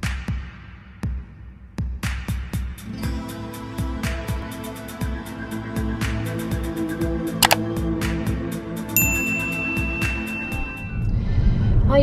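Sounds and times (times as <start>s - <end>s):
intro music with steady beat: 0.0s - 11.0s.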